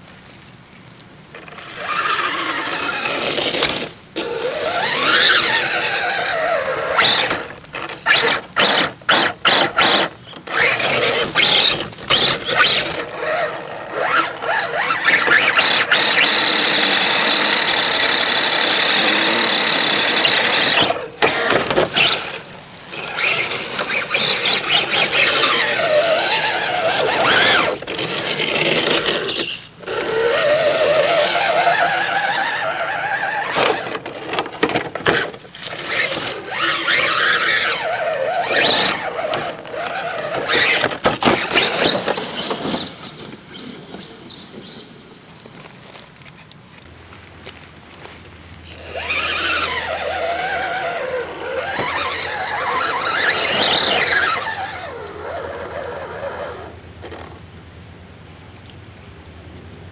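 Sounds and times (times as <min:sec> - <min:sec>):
toy car electric motor whining: 0:01.3 - 0:44.1, 0:48.7 - 0:57.3.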